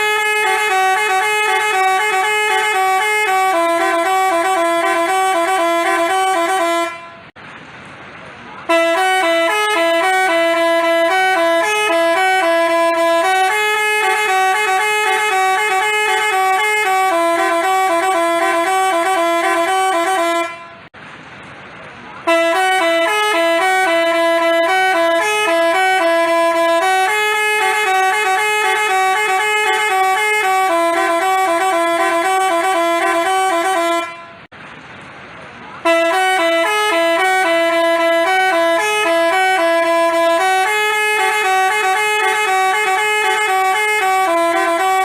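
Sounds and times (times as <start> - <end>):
multi-tone bus horn tune: 0.0 - 7.4, 8.6 - 21.0, 22.2 - 34.5, 35.8 - 45.0.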